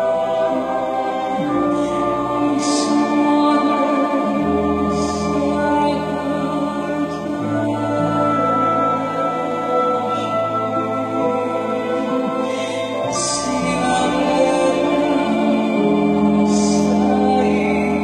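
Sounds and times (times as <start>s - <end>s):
choir singing: 0.0s - 18.0s
symphony orchestra: 0.0s - 18.0s.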